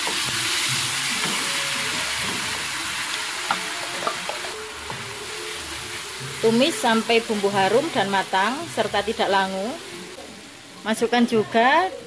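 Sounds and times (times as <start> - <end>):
paste sizzling in frying pan: 0.0 - 12.0.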